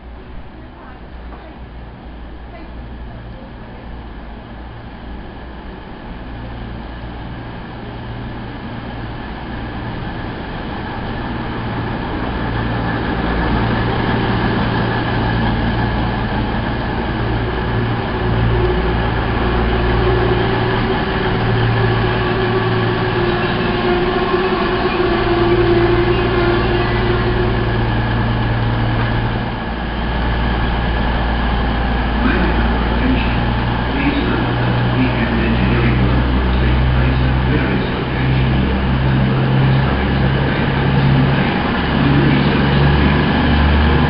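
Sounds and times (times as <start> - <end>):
diesel train engine drone: 0.0 - 44.0
steady whine: 0.0 - 44.0.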